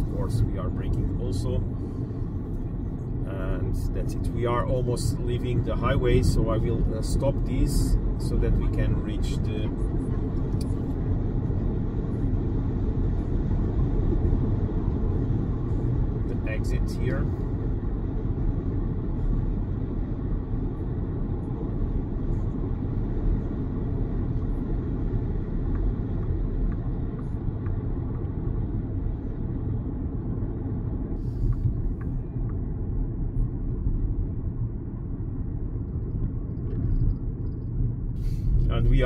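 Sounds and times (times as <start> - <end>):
tyre and wind road noise: 0.0 - 39.0.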